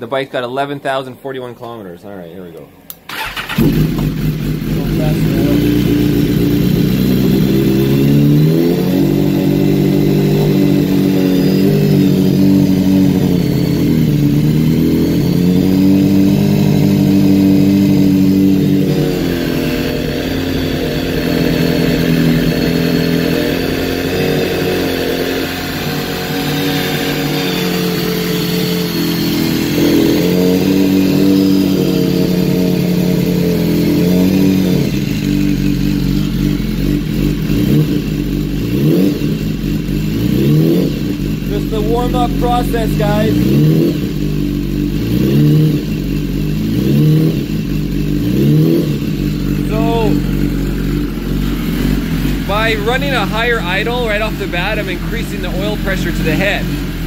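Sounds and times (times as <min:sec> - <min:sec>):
motorcycle engine revving at idle: 0:03.1 - 0:57.0.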